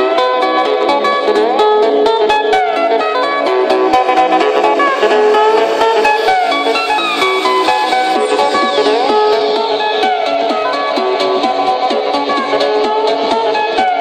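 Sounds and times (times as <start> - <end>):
electronic dance music on speakers: 0.0 - 14.0.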